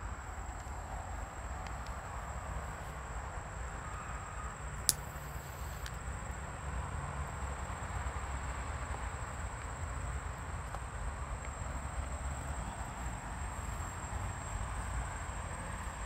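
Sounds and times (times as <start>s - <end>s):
high insect drone: 0.1s - 16.0s.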